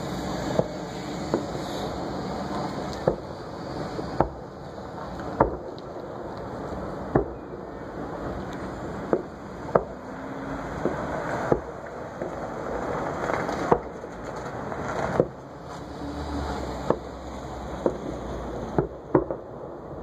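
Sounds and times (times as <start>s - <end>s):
fireworks bangs: 0.0s - 20.0s
steady rushing noise: 0.0s - 20.0s.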